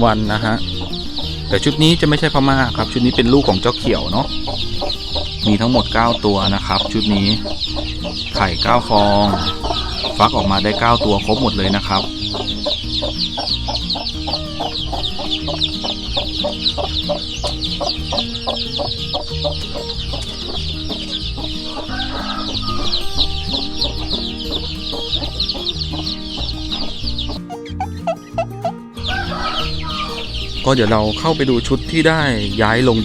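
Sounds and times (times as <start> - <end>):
background music: 0.0 - 33.0
chicks peeping: 0.0 - 33.0.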